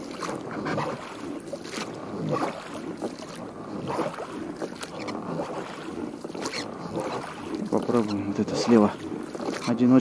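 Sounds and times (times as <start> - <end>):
paddle splashes and drips: 0.0 - 10.0.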